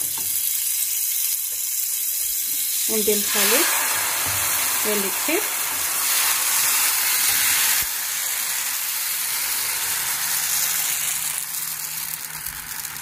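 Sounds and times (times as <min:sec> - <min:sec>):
batter sizzling in frying pan: 0:00.0 - 0:13.0.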